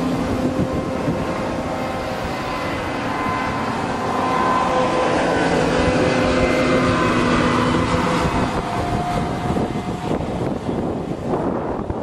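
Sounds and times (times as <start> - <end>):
multi-tone machine whine: 0.0 - 10.6
wind buffeting microphone: 0.0 - 12.0.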